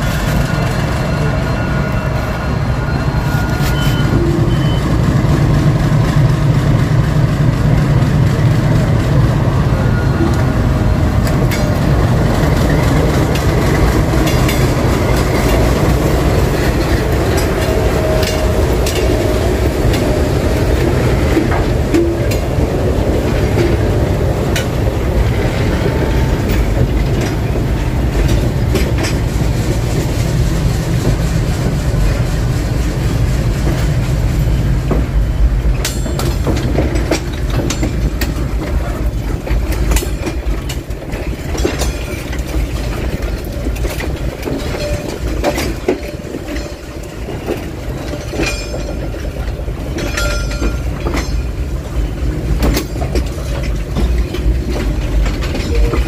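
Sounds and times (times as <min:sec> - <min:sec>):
locomotive engine rumble: 0:00.0 - 0:56.0
wheels clicking over rail joints: 0:09.8 - 0:56.0.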